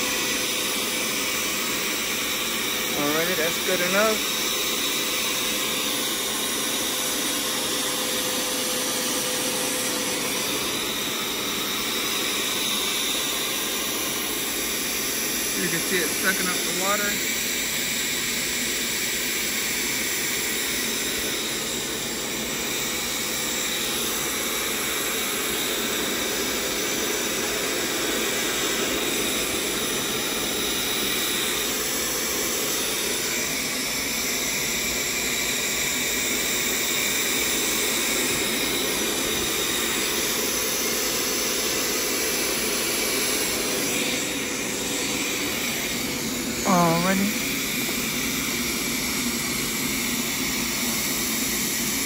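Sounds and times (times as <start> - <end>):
carpet cleaner suction motor: 0.0 - 52.0.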